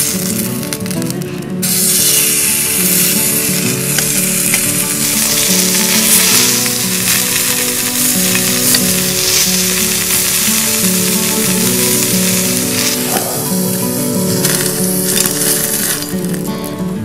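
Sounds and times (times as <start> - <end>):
meat sizzling on grill: 0.0 - 17.0
slow background melody: 0.0 - 17.0.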